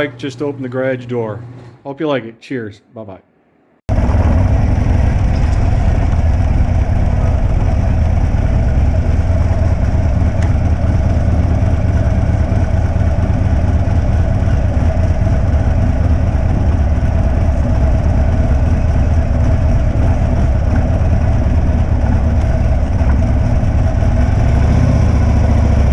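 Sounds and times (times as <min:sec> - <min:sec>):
motorcycle engine idling: 0:03.9 - 0:25.9.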